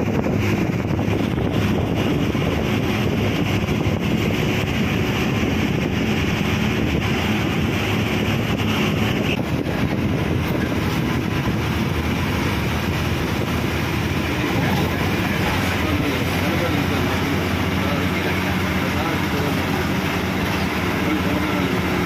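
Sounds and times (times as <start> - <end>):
bus engine hum: 0.0 - 22.0
road and wind rush: 0.0 - 22.0.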